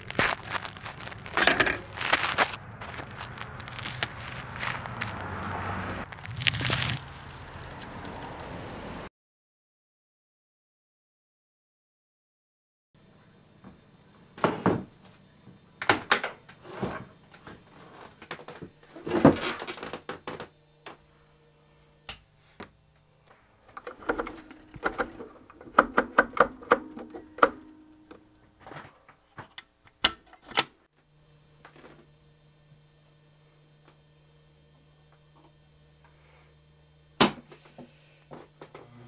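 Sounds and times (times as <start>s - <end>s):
faint steady hum: 0.0s - 9.1s, 13.0s - 39.0s.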